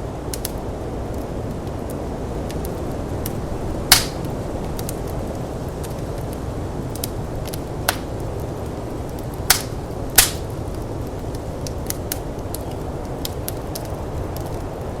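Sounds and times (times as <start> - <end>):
snowstorm wind rushing: 0.0 - 15.0
wood fire crackling and popping: 0.0 - 15.0.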